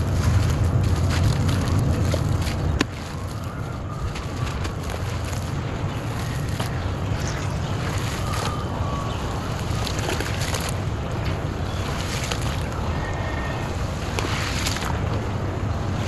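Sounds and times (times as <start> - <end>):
hands sloshing in water: 0.0 - 15.3.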